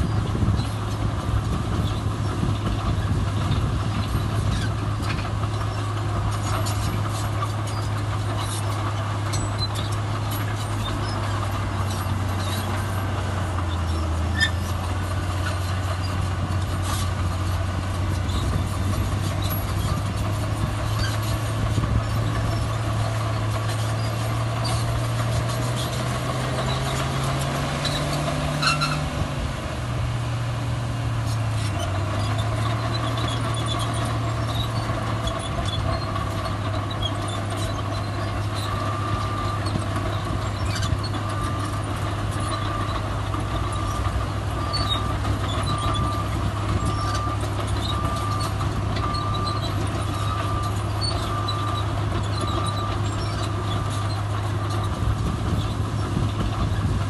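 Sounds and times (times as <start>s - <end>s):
clanks and squeaks: 0.0s - 29.4s, 31.2s - 57.0s
diesel machinery engine running: 0.0s - 57.0s.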